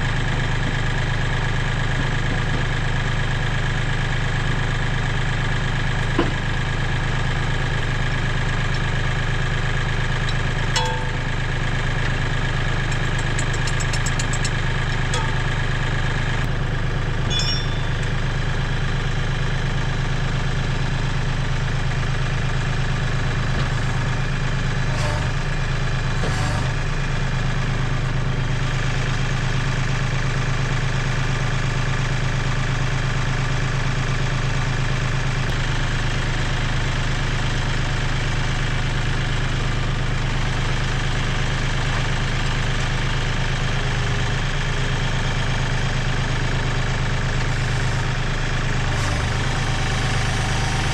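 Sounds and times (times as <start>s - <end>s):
tractor engine idling: 0.0s - 50.9s.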